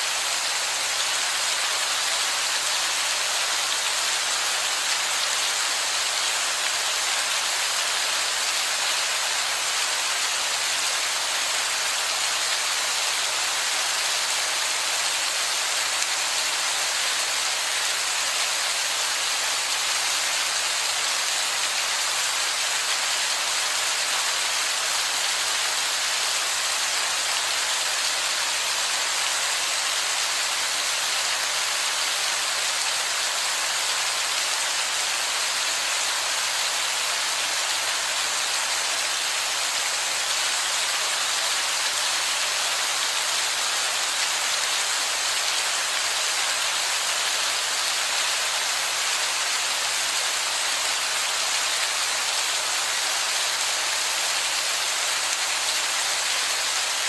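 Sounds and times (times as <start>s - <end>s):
rain falling on rock: 0.0s - 57.0s.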